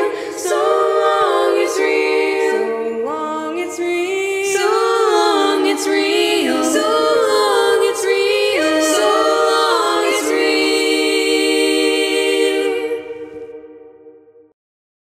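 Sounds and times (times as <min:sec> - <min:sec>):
a cappella choir singing: 0:00.0 - 0:14.2.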